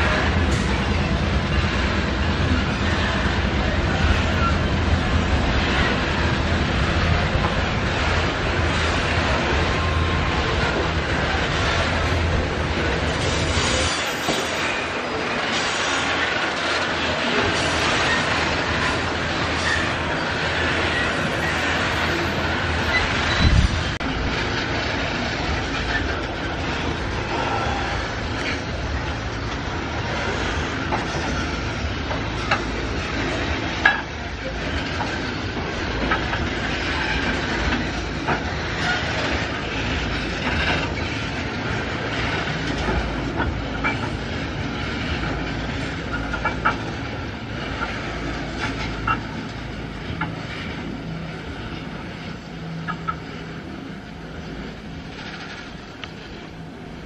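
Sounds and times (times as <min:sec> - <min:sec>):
train wagons rumbling: 0:00.0 - 0:57.0
wheels clacking over rail joints: 0:00.0 - 0:57.0.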